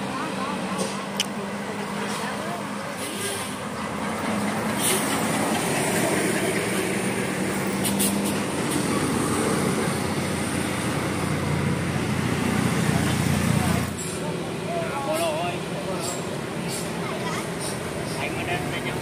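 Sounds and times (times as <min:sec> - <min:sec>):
bus diesel engine drone: 0:00.0 - 0:19.0
tyre and road noise: 0:00.0 - 0:19.0.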